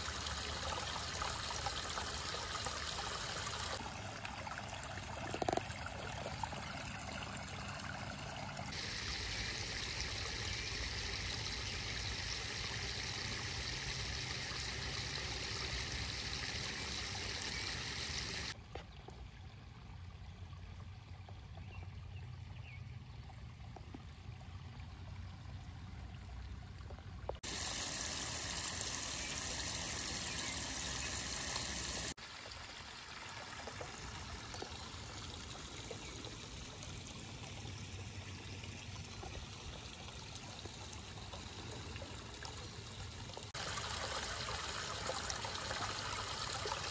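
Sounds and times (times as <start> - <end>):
water trickling over rocks: 0.0 - 46.9.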